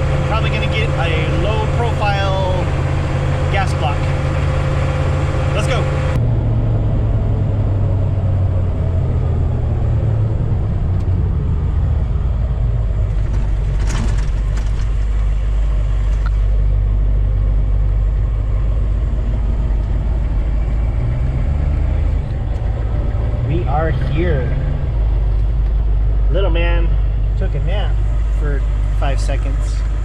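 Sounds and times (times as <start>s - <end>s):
car interior rumble: 0.0s - 30.0s.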